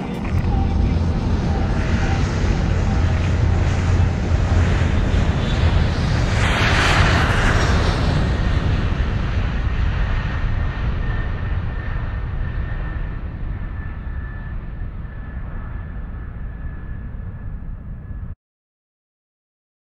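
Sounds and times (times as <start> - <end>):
wind noise on microphone: 0.0 - 18.4.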